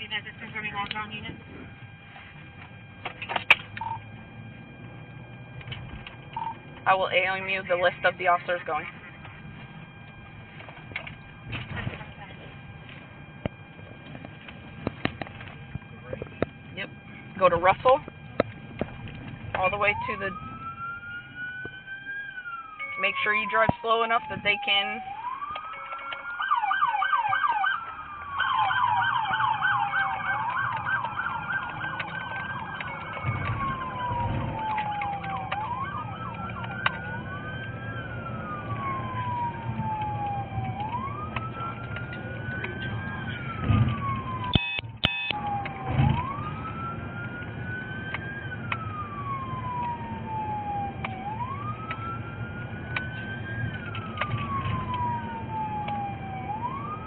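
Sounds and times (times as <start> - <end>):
car rumbling on road: 0.0 - 22.0, 26.3 - 57.0
police siren yelping and wailing: 0.0 - 57.0.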